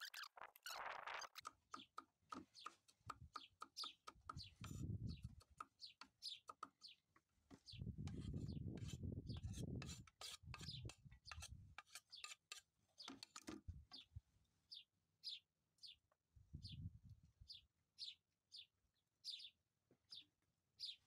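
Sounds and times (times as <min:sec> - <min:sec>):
small bird chirping: 0:00.0 - 0:09.6, 0:10.5 - 0:21.0.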